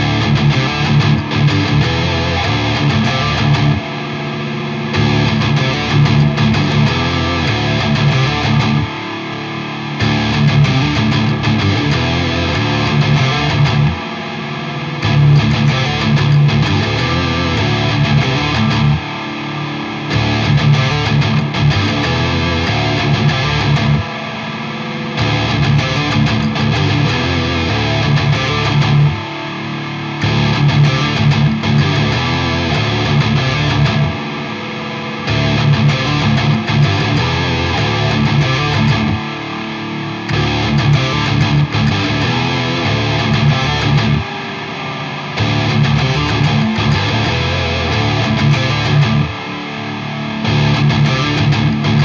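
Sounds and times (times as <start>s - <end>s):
distorted electric guitar riffs: 0.0s - 52.0s.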